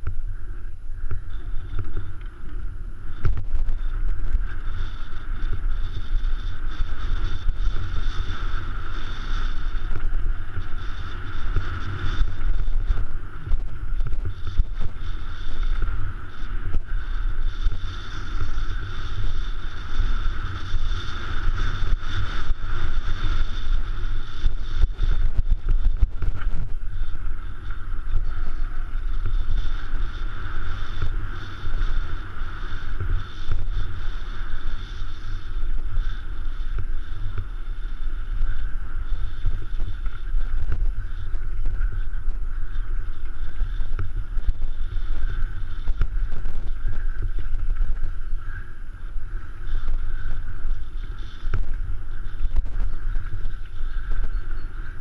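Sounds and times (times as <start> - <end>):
bike rattling over gravel: 0.0 - 55.0
steady high whir: 0.0 - 55.0
wind buffeting microphone: 0.0 - 55.0.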